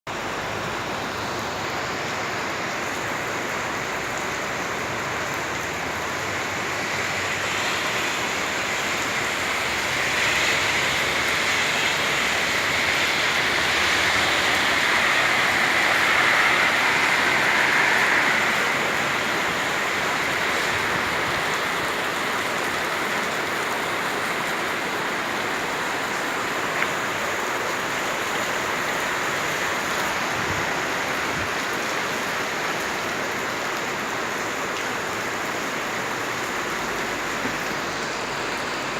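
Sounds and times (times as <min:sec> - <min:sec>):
rushing water: 0:00.1 - 0:38.9.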